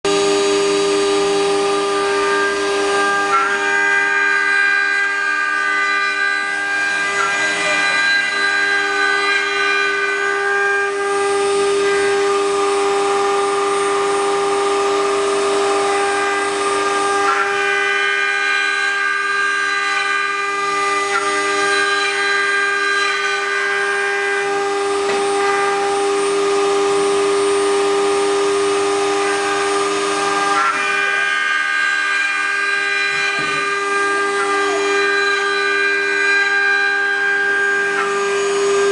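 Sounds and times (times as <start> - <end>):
router spindle motor whine: 0.0 - 38.9.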